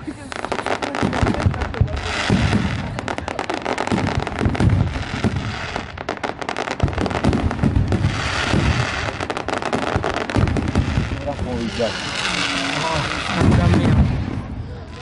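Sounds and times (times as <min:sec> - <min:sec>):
firecrackers cracking and popping: 0:00.0 - 0:15.0
deep firework booms: 0:00.4 - 0:15.0.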